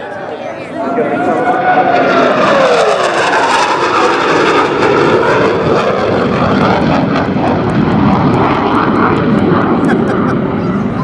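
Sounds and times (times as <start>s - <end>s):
jet engines in afterburner: 0.0s - 11.0s.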